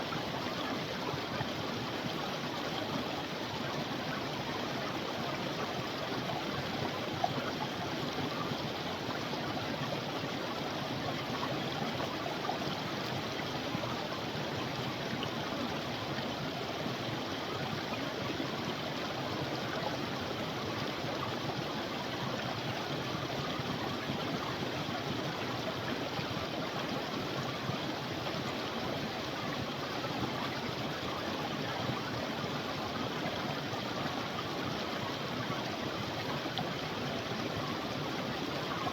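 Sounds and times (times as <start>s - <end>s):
creek water running: 0.0s - 38.9s.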